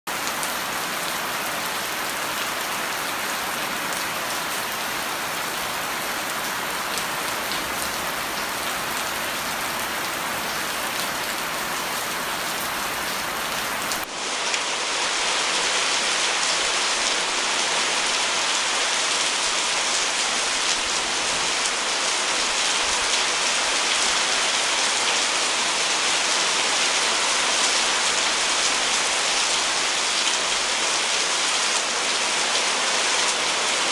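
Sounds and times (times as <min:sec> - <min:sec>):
rain falling on leaves: 0:00.1 - 0:33.9.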